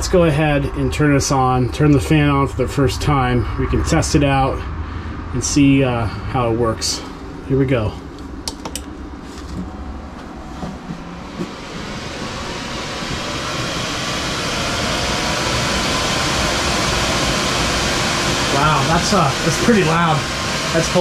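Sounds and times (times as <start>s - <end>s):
cooling fan air rush: 0.0s - 21.0s.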